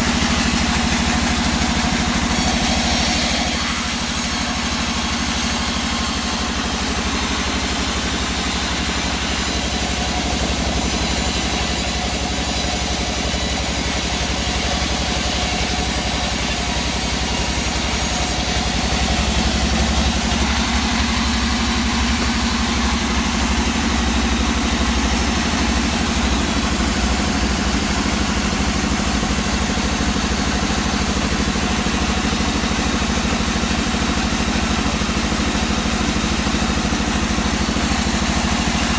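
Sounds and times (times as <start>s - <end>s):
sawing machine engine running: 0.0s - 38.9s.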